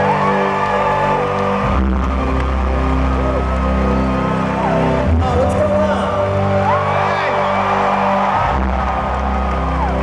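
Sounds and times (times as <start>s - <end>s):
crowd whooping: 0.0s - 5.1s, 6.4s - 10.0s
synth-pop band playing live: 0.0s - 10.0s.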